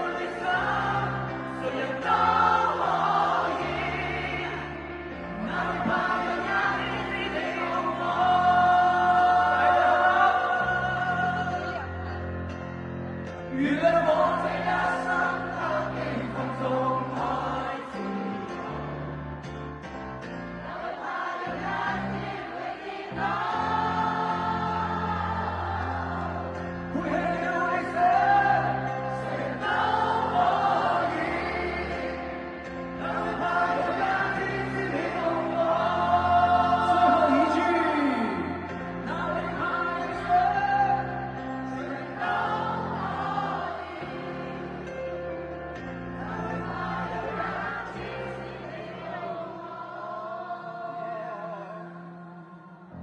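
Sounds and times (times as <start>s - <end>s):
several voices singing: 0.0s - 19.5s, 20.3s - 53.0s.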